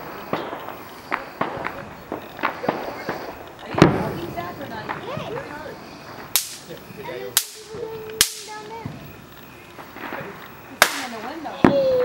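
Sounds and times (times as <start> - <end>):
fireworks bangs with hiss: 0.0 - 12.0.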